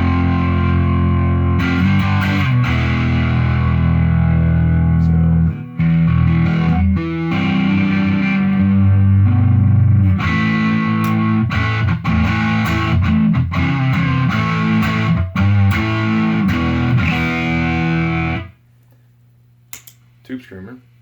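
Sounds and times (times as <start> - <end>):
distorted electric guitar riff: 0.0 - 18.6
faint low amp hum: 0.0 - 21.0.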